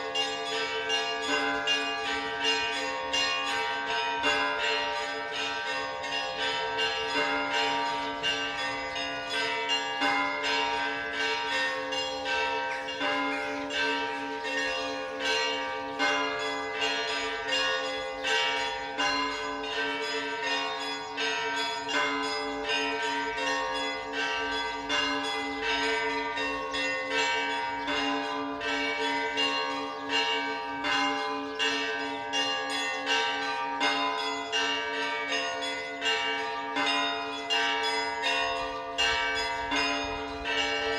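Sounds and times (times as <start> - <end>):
church bells pealing: 0.0 - 40.9
hum of large bells: 0.0 - 40.9.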